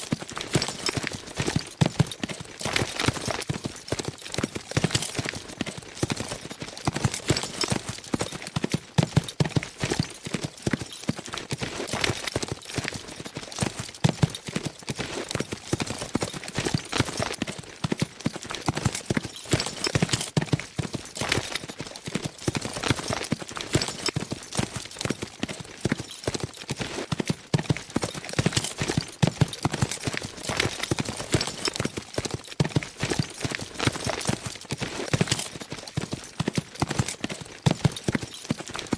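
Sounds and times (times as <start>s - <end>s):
horses galloping hoofbeats: 0.0s - 38.9s.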